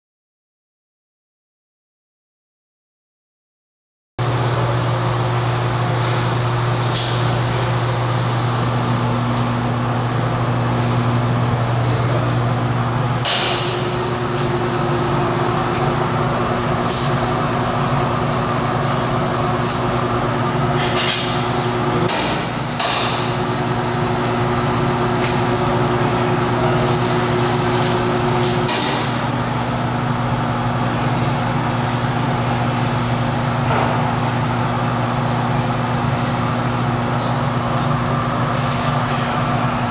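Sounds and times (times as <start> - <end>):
low motor hum: 4.2 - 39.9.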